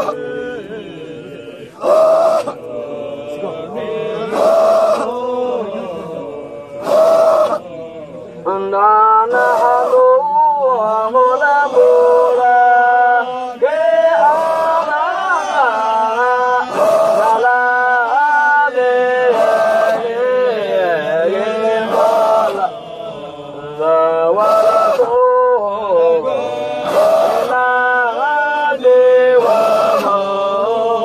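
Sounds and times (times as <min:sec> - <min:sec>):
men chanting melodically: 0:00.0 - 0:31.0.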